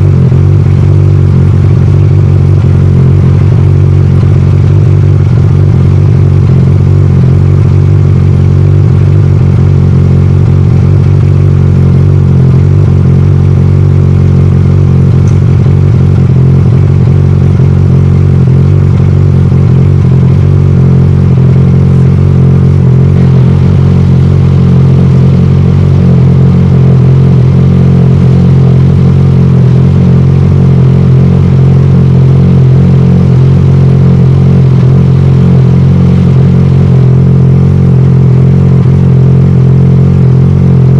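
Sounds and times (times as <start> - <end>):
scooter exhaust low drone: 0.0 - 40.9.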